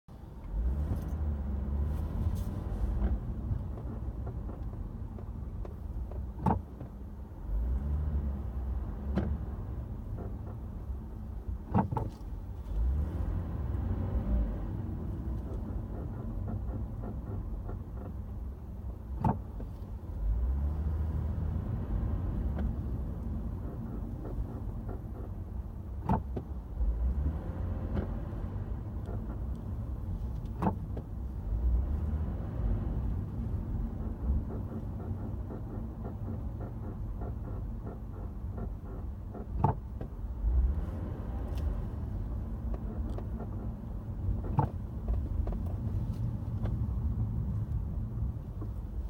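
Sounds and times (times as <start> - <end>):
car low rumble: 0.0 - 49.0.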